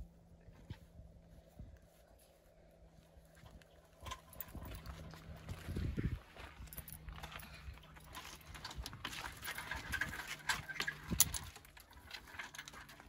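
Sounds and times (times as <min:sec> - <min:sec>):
footsteps crunching on gravel: 0:00.6 - 0:13.0.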